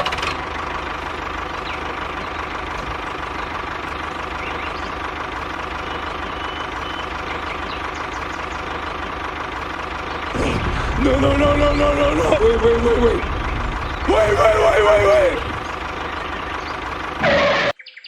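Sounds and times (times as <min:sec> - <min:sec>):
engine idling: 0:00.0 - 0:17.6.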